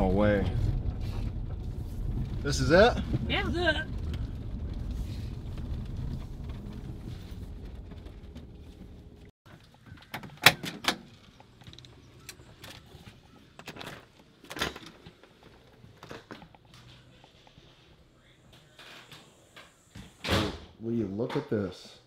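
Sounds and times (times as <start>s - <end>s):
engine and road rumble: 0.0s - 19.9s.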